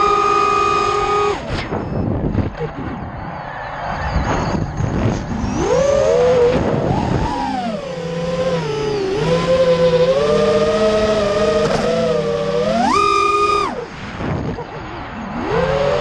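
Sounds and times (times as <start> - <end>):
drone motors whining: 0.0 - 16.0
wind rushing over microphone: 1.0 - 16.0.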